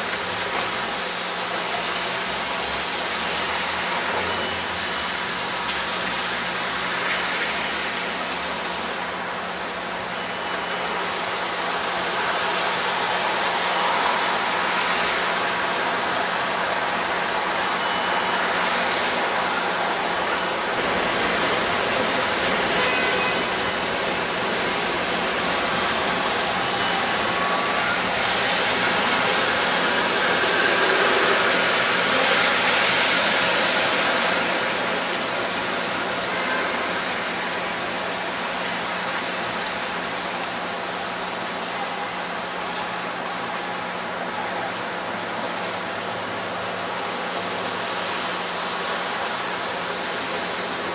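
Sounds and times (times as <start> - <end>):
city street traffic rushing: 0.0 - 50.9.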